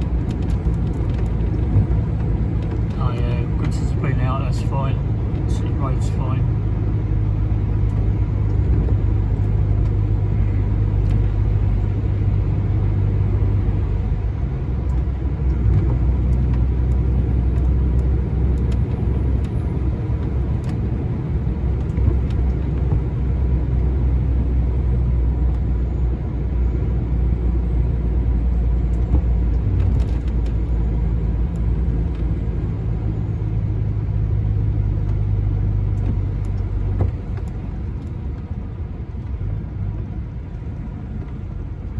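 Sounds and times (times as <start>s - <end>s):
lorry diesel engine drone: 0.0s - 41.9s
road noise: 0.0s - 41.9s.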